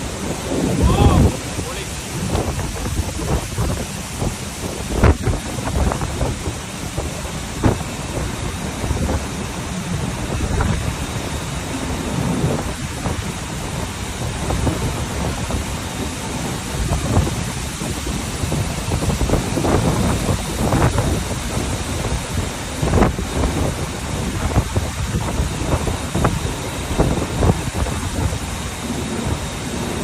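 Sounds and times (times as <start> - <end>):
sharp wind buffets: 0.0 - 30.0
strong wind on microphone: 0.0 - 30.0.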